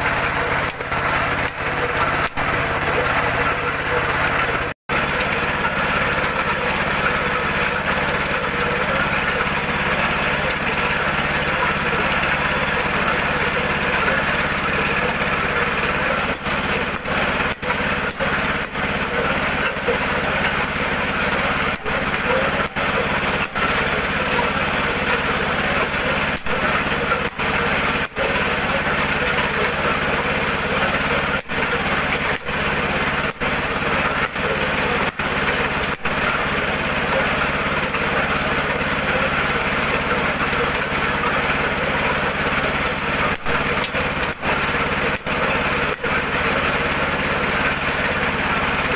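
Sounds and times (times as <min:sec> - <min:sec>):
small petrol engine running: 0:00.0 - 0:48.9.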